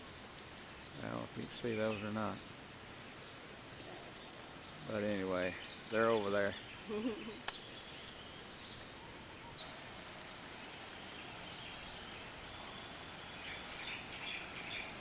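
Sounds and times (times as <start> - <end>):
running water hissing: 0.0 - 15.0.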